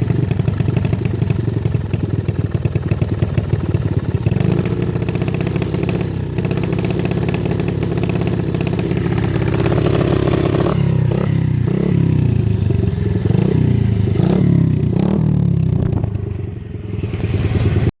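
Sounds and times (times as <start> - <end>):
dirt bike engine revving: 2.7 - 17.9.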